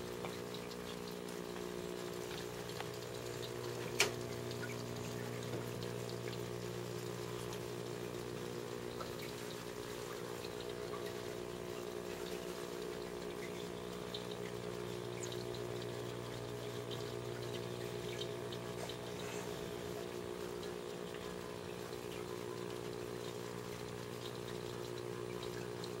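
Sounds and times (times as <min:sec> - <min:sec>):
aquarium filter humming: 0:00.0 - 0:26.0
circulating water wash: 0:00.0 - 0:26.0.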